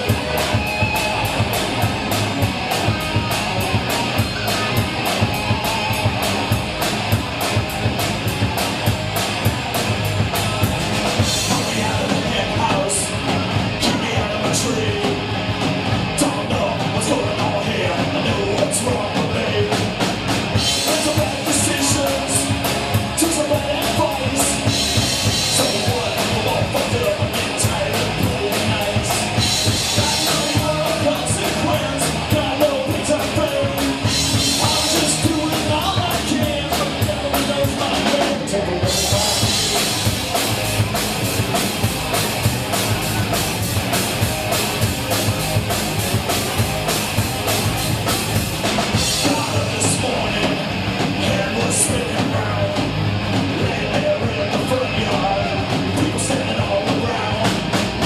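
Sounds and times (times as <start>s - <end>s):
drum kit beat with cymbals: 0.0s - 58.0s
live rock band playing: 0.0s - 58.0s.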